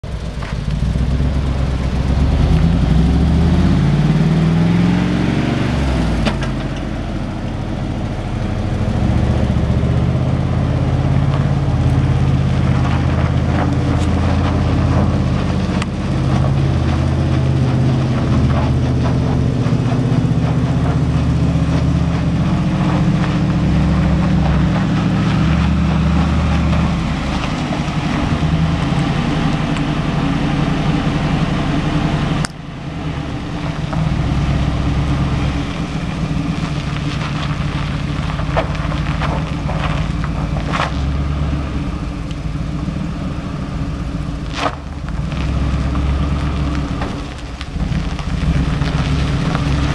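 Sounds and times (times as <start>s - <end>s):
pickup truck engine running: 0.0s - 49.9s.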